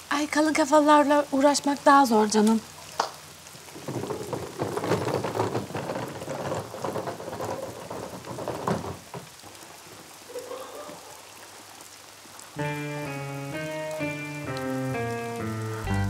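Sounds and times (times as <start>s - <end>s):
rain pattering on car and pavement: 0.0s - 16.0s.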